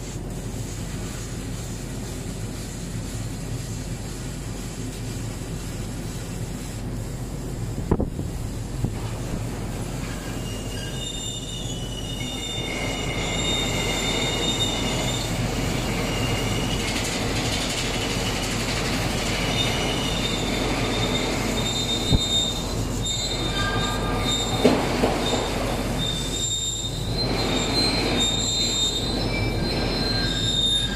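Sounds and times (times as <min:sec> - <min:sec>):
steady hiss: 0:00.0 - 0:27.1.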